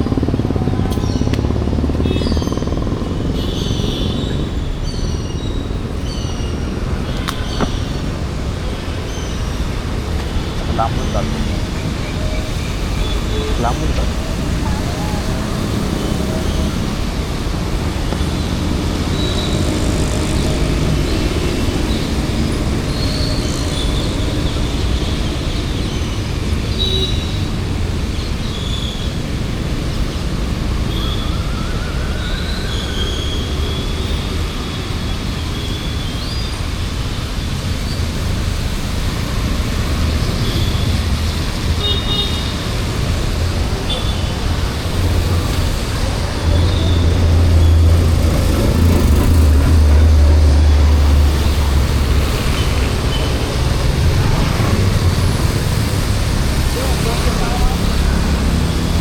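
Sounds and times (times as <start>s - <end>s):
rumble of passing vehicles: 0.0s - 59.0s.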